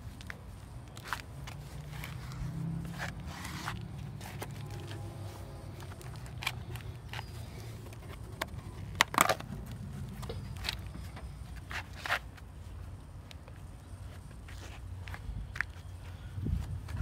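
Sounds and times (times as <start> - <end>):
shoes scraping on asphalt: 0.0 - 17.0.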